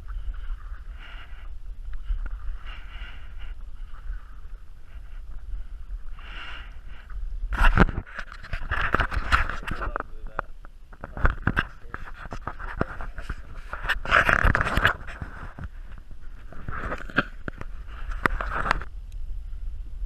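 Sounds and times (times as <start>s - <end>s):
kayak paddle swishing through water: 0.0s - 9.8s, 11.8s - 18.9s
wind rumble on microphone: 0.0s - 20.0s.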